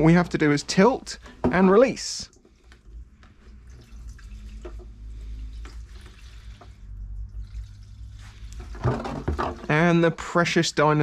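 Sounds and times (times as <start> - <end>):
fuel trickling through tube: 1.0 - 10.4.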